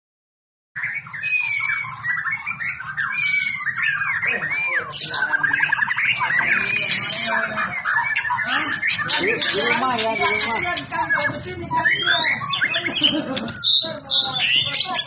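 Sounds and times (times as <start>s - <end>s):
bird singing whistles and trills: 0.8s - 15.0s.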